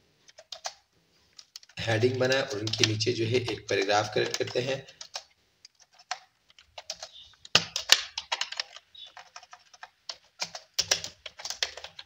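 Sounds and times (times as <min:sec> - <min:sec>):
keyboard typing: 0:00.3 - 0:00.8, 0:01.4 - 0:12.0.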